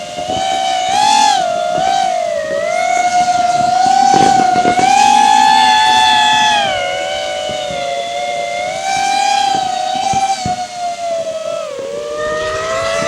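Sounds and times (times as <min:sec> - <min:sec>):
crackling: 0:00.0 - 0:13.0
quadcopter motors whining: 0:00.0 - 0:13.0.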